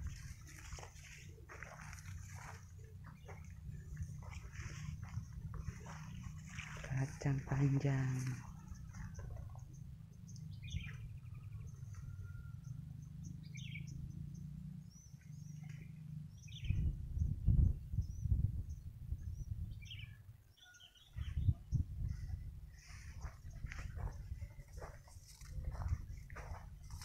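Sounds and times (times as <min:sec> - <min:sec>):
low microphone rumble: 0:00.0 - 0:20.4, 0:21.0 - 0:27.0
small birds chirping: 0:00.0 - 0:27.0.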